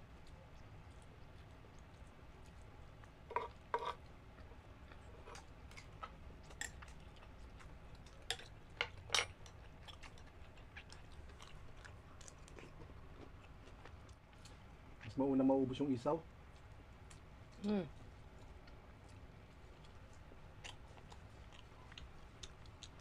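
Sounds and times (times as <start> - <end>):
chewing with wet mouth clicks: 0.1 - 15.2, 18.2 - 23.0.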